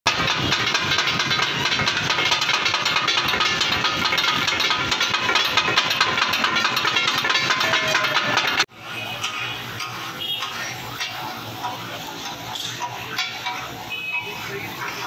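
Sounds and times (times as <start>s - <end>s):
metal blades clattering on griddle: 0.1s - 15.0s.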